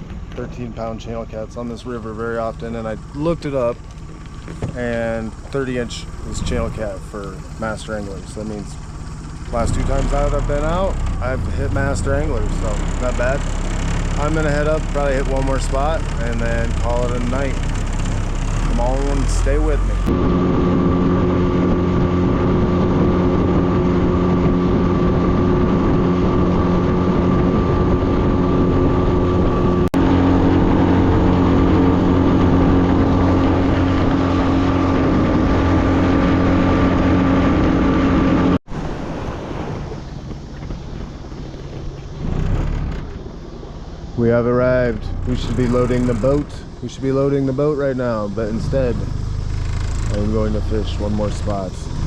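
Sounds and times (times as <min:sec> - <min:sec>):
outboard motor running: 0:00.0 - 0:52.0
wind and water rushing: 0:04.7 - 0:46.9.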